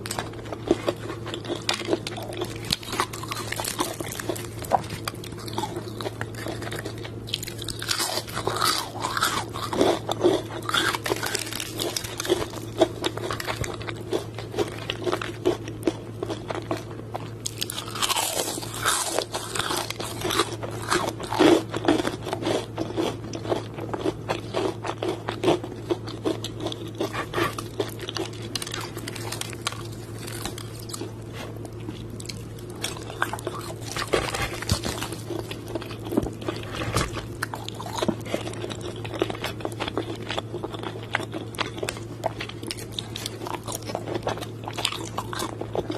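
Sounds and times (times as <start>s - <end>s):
crunching and chewing fried chicken: 0.0s - 45.9s
low steady hum: 0.0s - 45.9s.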